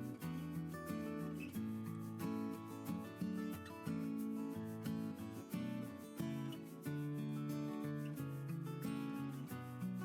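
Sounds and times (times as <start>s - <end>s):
instrumental music melody: 0.0s - 10.0s.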